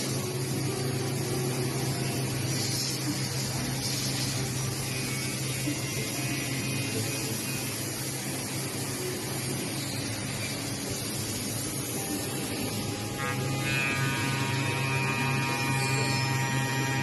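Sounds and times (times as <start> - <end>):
continuous hiss: 0.0 - 17.0
machine humming: 0.0 - 17.0.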